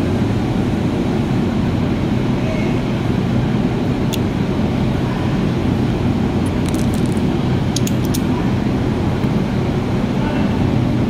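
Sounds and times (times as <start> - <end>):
loud low background drone: 0.0 - 11.0.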